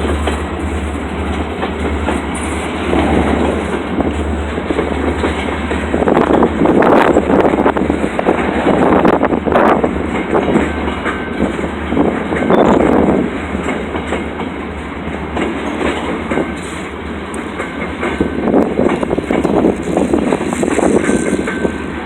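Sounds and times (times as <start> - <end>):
train low rumble: 0.0 - 22.0
train wheels clattering over rails: 0.0 - 22.0.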